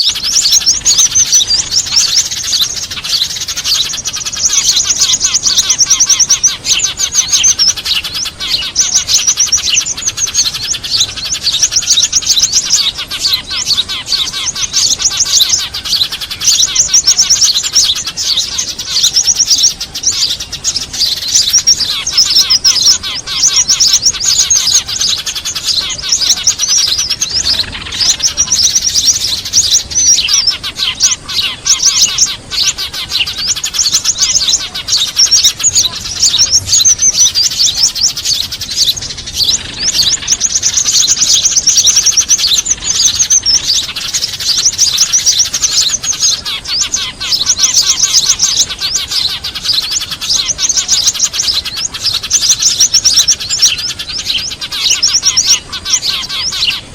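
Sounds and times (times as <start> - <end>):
small birds chattering: 0.0 - 56.9.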